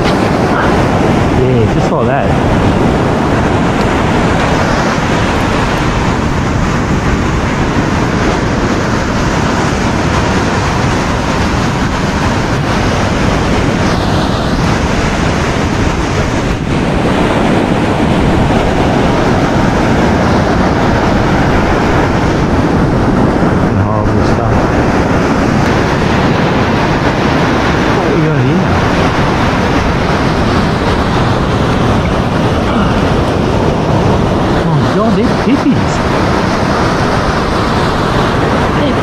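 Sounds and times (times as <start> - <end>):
ocean surf washing on beach: 0.0 - 39.0
wind rushing across microphone: 0.0 - 39.0.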